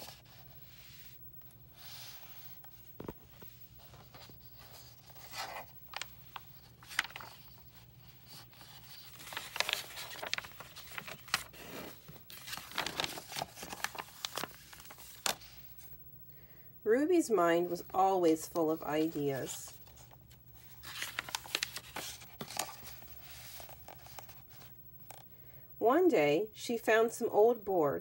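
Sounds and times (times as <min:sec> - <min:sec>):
book pages rustling: 0:00.0 - 0:16.0, 0:18.5 - 0:25.3.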